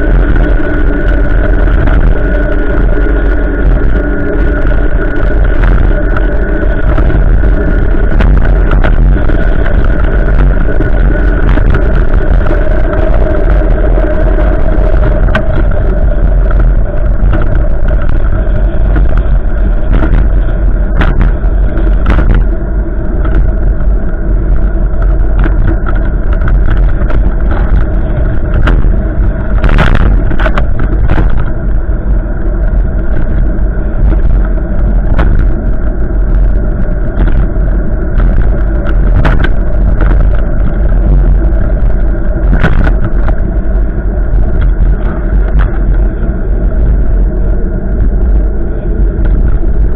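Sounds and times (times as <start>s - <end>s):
wind blowing over microphone: 0.0s - 49.9s.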